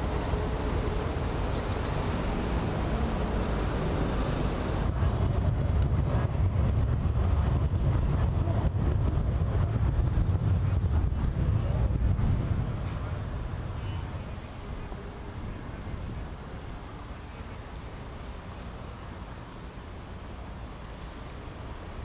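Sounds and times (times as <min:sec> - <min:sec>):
low machinery rumble: 0:00.0 - 0:19.5.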